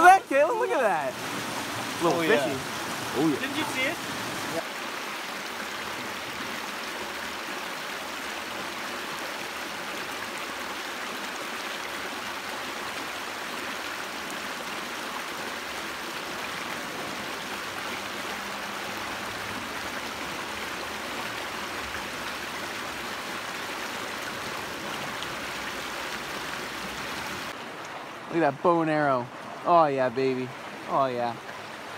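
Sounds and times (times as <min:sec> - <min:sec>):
creek running over rocks: 0:00.0 - 0:31.9.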